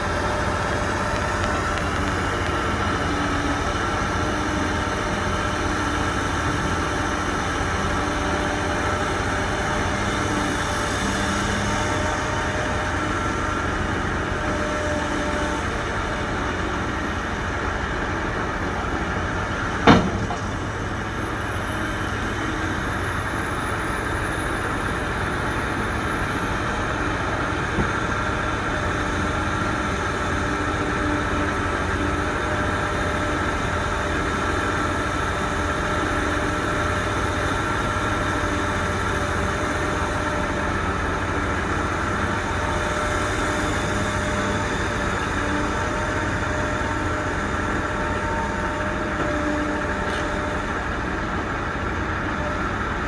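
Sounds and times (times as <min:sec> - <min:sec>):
heavy machinery engines rumbling: 0:00.0 - 0:53.0.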